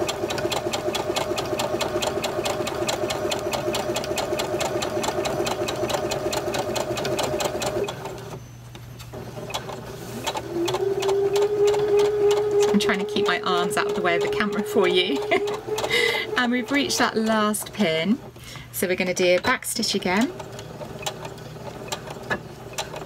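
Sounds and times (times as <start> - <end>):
sewing machine stitching: 0.0 - 8.4, 9.1 - 23.0.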